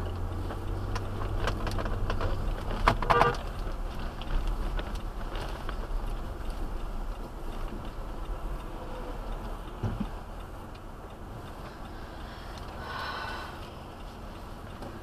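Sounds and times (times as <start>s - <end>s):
car hum: 0.0s - 15.0s
turn signal ticking: 0.0s - 15.0s.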